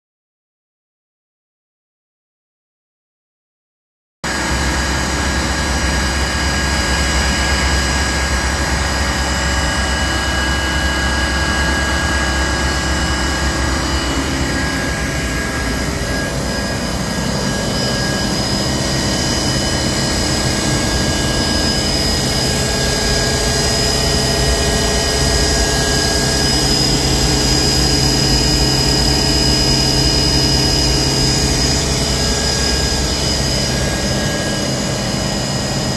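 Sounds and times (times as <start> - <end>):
lathe machine whine: 4.3 - 35.9
low machine hum: 4.3 - 35.9.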